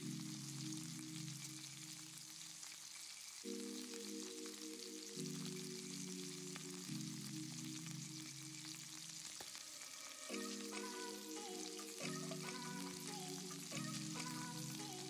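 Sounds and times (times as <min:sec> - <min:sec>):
background music with sustained chords: 0:00.0 - 0:02.6, 0:03.4 - 0:15.0
steaks sizzling in a frying pan: 0:00.0 - 0:15.0.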